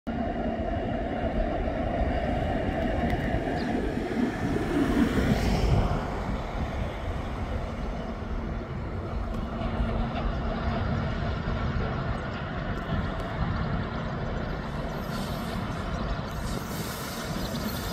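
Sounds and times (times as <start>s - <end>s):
diesel locomotive engines rumbling: 0.1s - 17.9s.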